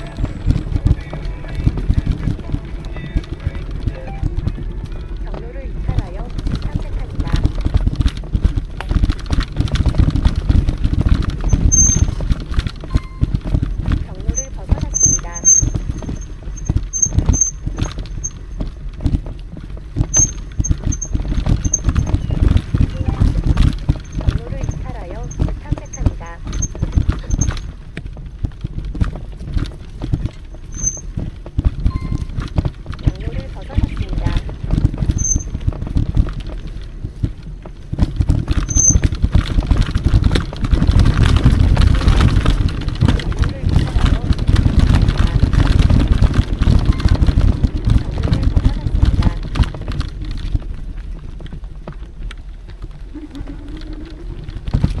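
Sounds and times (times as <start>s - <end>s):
bike knocks and rattles: 0.0s - 55.0s
steady low rumble: 0.0s - 55.0s.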